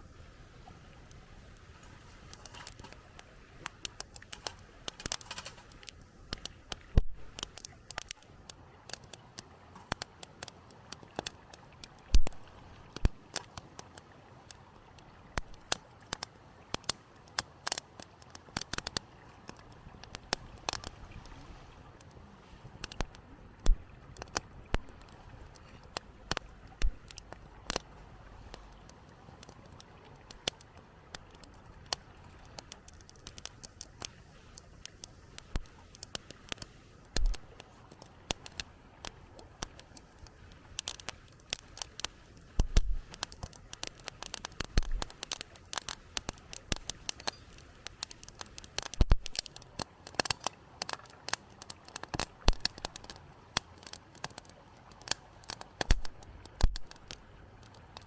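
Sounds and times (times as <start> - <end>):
sharp clicks and snaps: 2.3 - 21.2, 22.8 - 27.9, 28.5 - 58.0.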